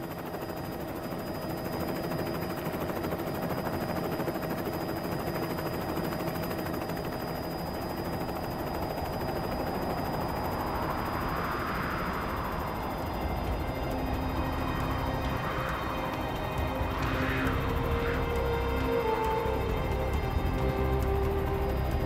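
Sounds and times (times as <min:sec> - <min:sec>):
helicopter rotor chop: 0:00.0 - 0:22.0
turbine whine: 0:00.0 - 0:22.0.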